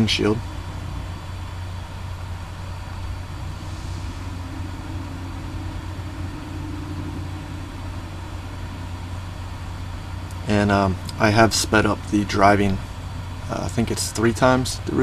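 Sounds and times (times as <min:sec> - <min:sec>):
truck engine drone from inside cab: 0:00.0 - 0:15.0.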